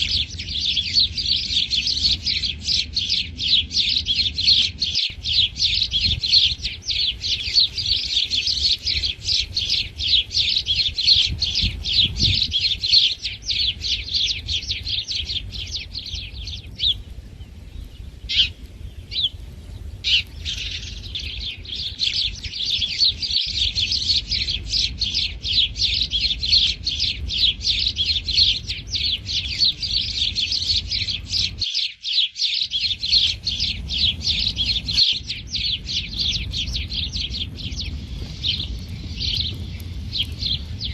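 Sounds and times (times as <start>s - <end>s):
sparrows chirping rapidly: 0.0s - 40.9s.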